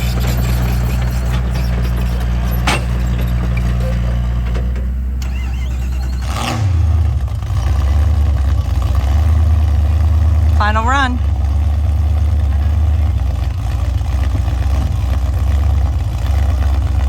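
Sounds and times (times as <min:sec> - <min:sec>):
truck engine idling and revving: 0:00.0 - 0:17.0.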